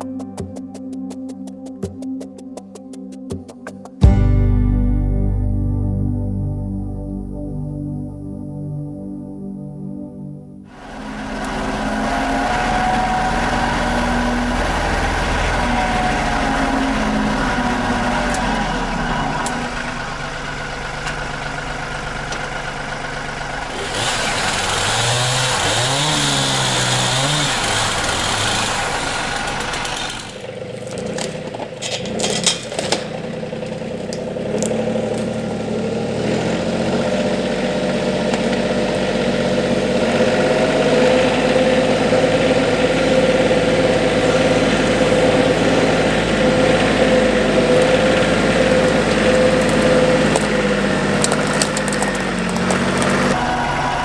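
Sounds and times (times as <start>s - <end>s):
tractor diesel engine running: 10.7s - 54.0s.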